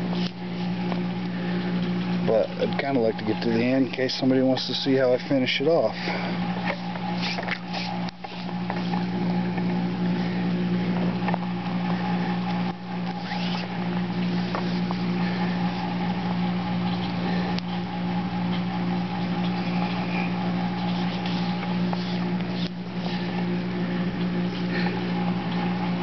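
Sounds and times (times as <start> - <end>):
small motor humming: 0.0 - 26.0.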